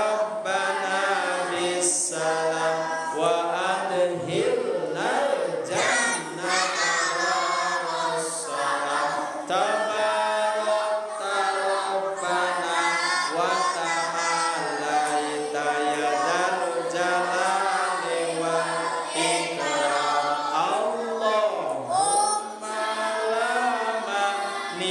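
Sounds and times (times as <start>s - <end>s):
man chanting into a microphone: 0.0s - 22.1s, 22.8s - 24.9s.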